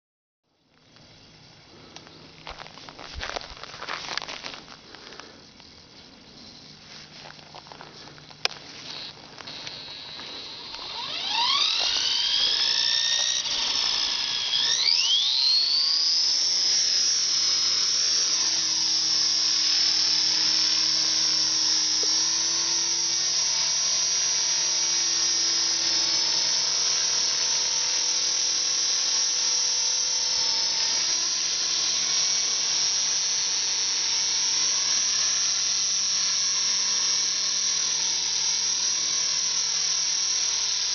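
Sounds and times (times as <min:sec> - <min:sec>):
rc helicopter motor whine: 0:00.7 - 0:40.9.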